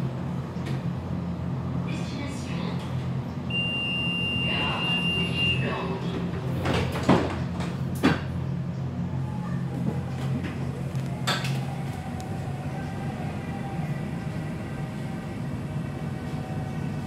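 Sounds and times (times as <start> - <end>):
low equipment hum: 0.0 - 17.0
tram sliding doors closing: 0.0 - 17.0.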